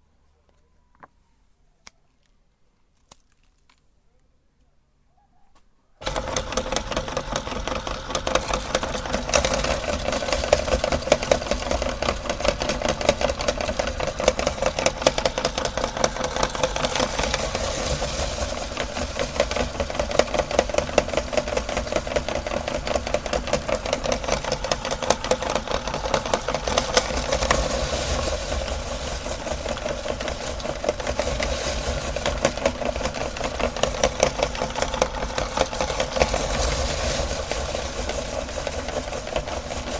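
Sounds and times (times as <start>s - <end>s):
electric meat grinder running: 6.0s - 39.9s.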